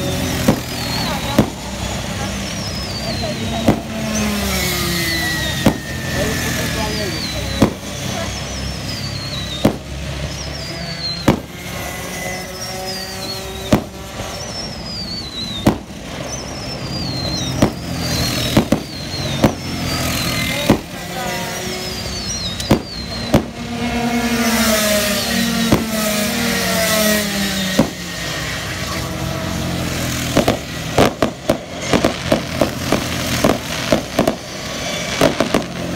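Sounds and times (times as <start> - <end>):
fireworks bursting with sharp bangs: 0.0 - 35.9
fireworks crackling: 0.0 - 35.9
racing kart engines passing: 0.0 - 35.9.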